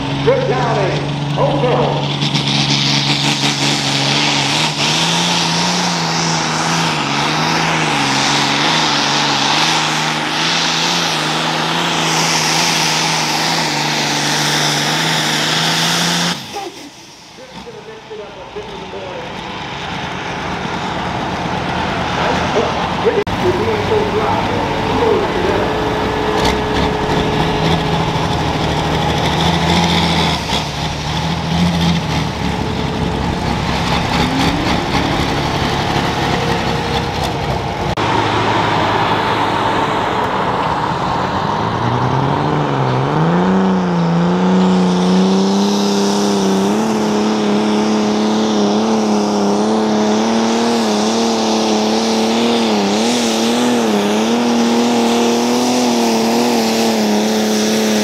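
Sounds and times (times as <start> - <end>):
tractor engine revving high: 0.0 - 58.0
tractor engine running steadily: 0.0 - 58.0.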